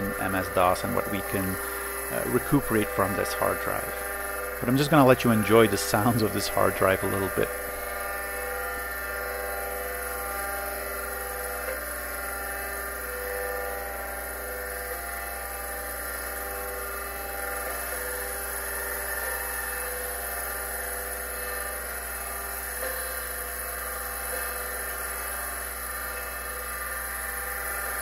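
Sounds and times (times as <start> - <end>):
hard drive motor whine: 0.0 - 28.0.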